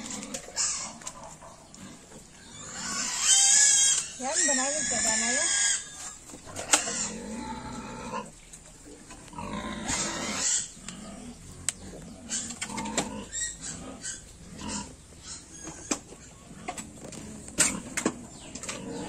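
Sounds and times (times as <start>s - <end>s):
piglets grunting and squealing: 0.0s - 19.0s.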